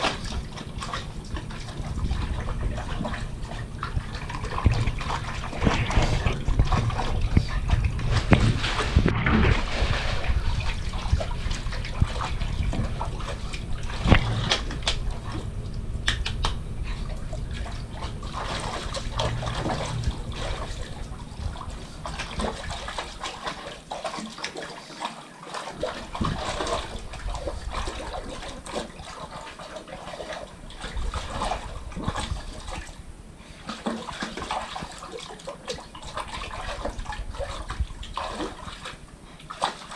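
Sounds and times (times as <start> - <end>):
dog splashing water: 0.0 - 39.9.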